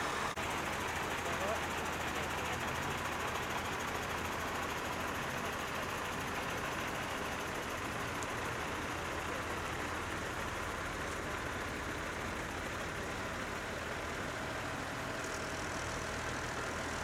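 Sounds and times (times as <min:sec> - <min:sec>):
truck engines running: 0:00.0 - 0:17.0.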